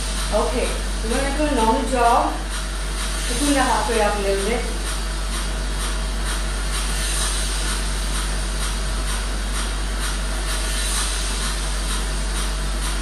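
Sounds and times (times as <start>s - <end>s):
loud steady whirring with hum: 0.0s - 13.0s.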